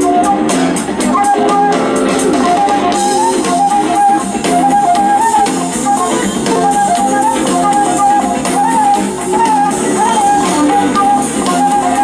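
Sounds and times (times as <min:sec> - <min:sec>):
flute melody: 0:00.0 - 0:12.0
live rock band playing: 0:00.0 - 0:12.0.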